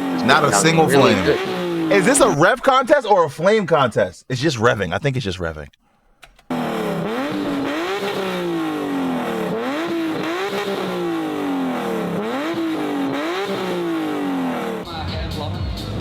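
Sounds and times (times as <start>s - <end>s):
car engine throttle blips: 0.0s - 15.0s.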